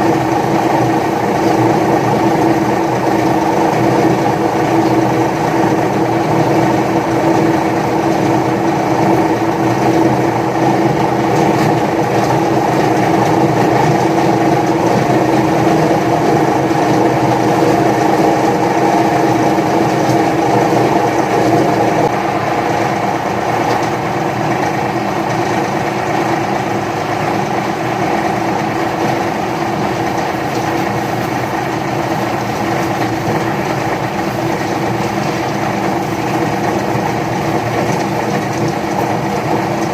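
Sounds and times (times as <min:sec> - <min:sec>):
paper shredder running: 0:00.0 - 0:39.9.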